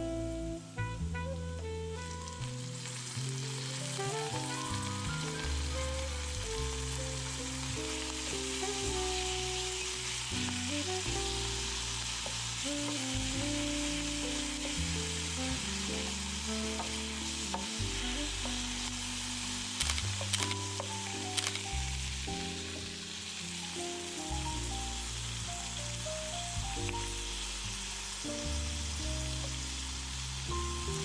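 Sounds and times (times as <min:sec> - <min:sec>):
background music: 0:00.0 - 0:31.0
vegetables sizzling in a pan: 0:02.5 - 0:31.0.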